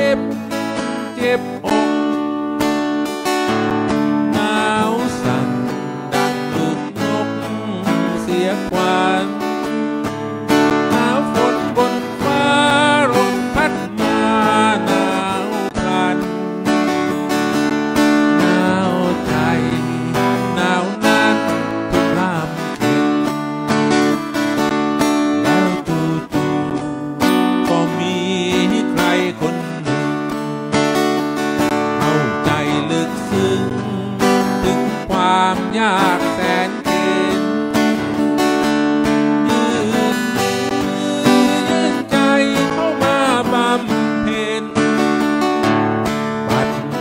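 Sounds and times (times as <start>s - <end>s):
man singing slow song: 0.0s - 2.8s, 3.4s - 23.8s, 25.1s - 30.4s, 31.6s - 47.0s
acoustic guitar strumming: 0.0s - 47.0s.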